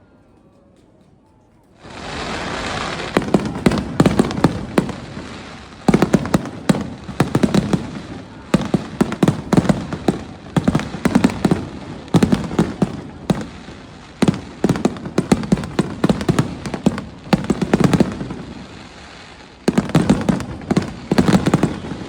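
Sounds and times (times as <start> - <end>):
firework bangs and crackling bursts: 1.7 - 22.0
firework rocket hissing: 1.8 - 22.0.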